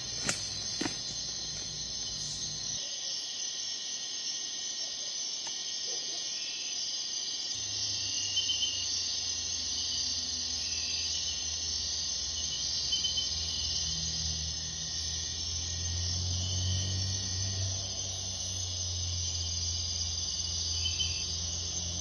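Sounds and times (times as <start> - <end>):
night insects chirping: 0.0 - 22.0.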